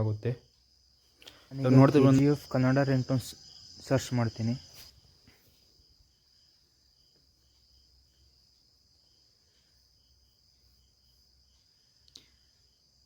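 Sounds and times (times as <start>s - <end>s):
crickets chirping: 0.0s - 13.0s
faint high-pitched whine: 0.0s - 13.0s.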